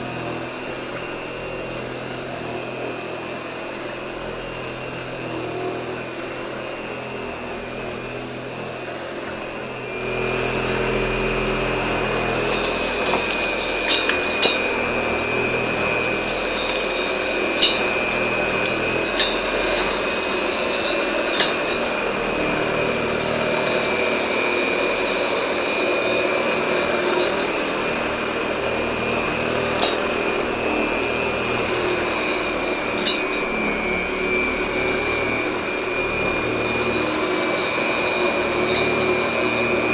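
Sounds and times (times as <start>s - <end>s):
vacuum cleaner whine: 0.0s - 39.9s.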